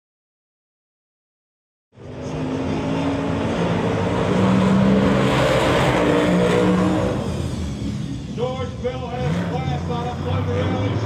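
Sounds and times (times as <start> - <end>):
monster truck engines revving: 2.0 - 11.0.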